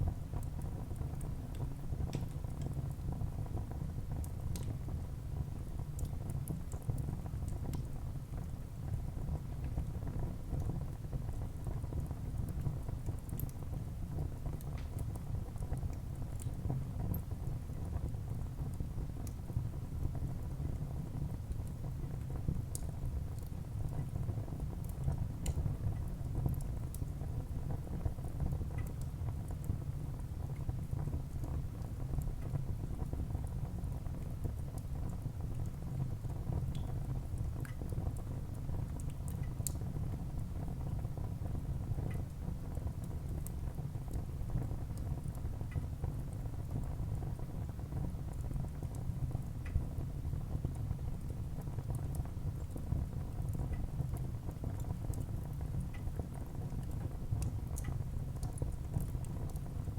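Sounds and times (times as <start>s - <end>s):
wood fire crackling: 0.1s - 8.4s, 10.9s - 19.6s, 21.3s - 41.2s, 42.0s - 59.9s.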